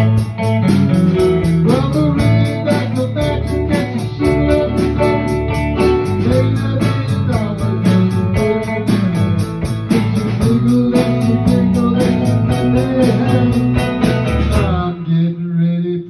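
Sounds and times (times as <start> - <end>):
blues-rock guitar and bass: 0.0 - 15.1.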